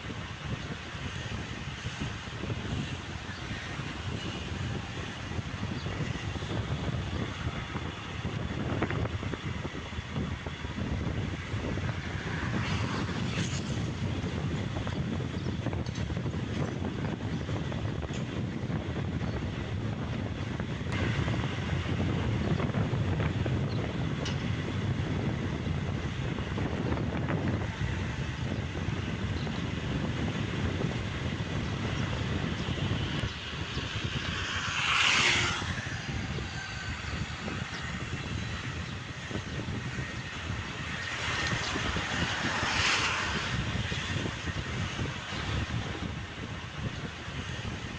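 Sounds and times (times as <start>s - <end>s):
wind rushing on microphone: 0.0s - 47.9s.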